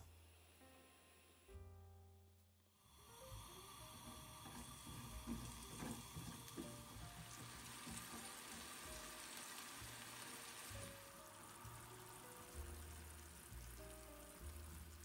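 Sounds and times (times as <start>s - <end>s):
syrup sizzling and bubbling: 2.8s - 15.0s.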